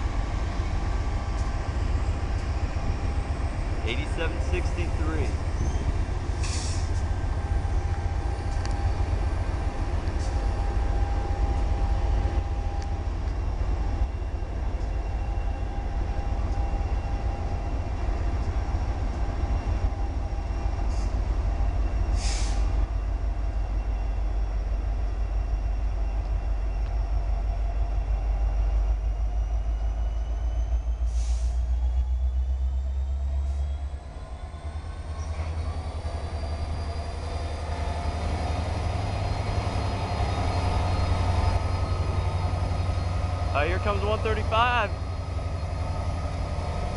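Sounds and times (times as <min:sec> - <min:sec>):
freight train rumbling past: 0:00.0 - 0:46.9
train cars squealing and clanking: 0:00.0 - 0:46.9.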